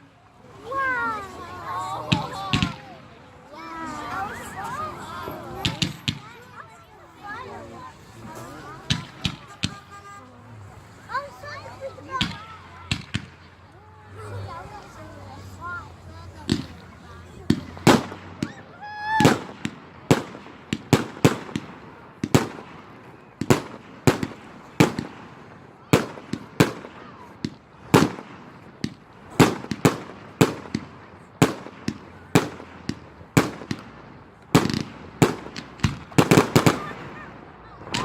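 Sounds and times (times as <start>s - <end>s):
fireworks bangs: 1.8s - 3.2s, 5.4s - 13.7s, 15.7s - 38.0s.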